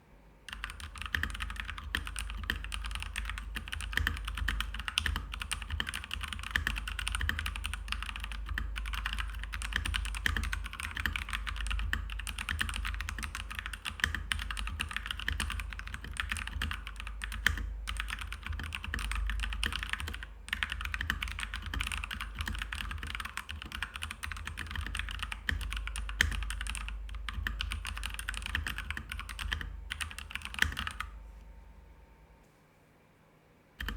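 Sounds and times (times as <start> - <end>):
fast mechanical keyboard typing: 0.5 - 31.2.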